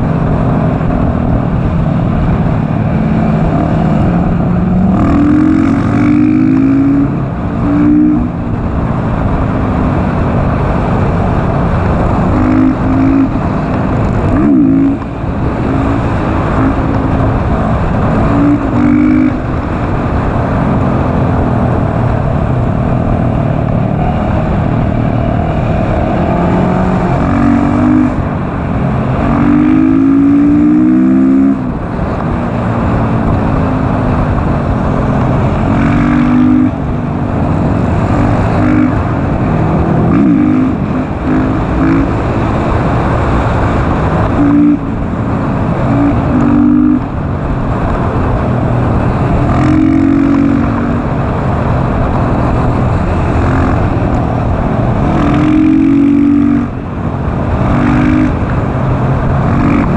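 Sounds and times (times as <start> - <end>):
motorcycle engine revving: 0.0 - 59.9
wind rush on microphone: 0.0 - 59.9.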